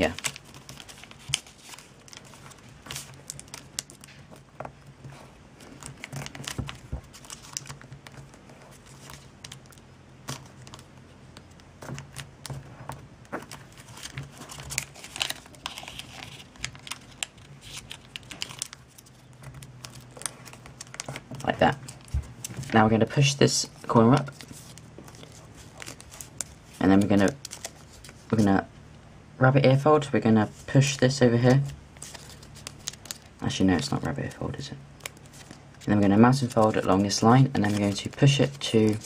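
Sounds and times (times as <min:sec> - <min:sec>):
paper being folded and creased: 0:00.0 - 0:28.6, 0:30.4 - 0:39.0.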